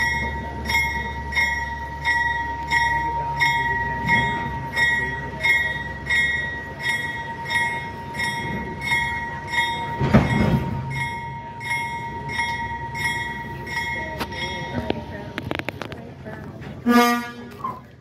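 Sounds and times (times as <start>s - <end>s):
locomotive bell ringing: 0.0s - 15.8s
rumble of moving train: 0.0s - 18.0s.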